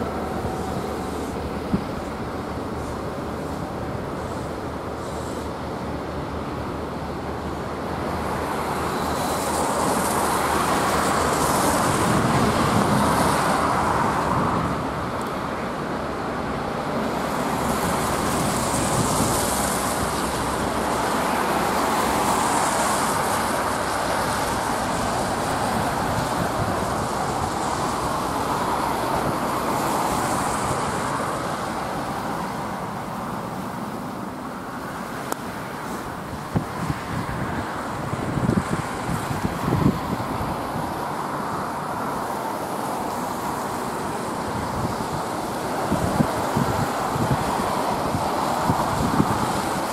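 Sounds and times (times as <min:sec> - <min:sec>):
car tyres hissing on wet road: 0:00.0 - 0:49.9.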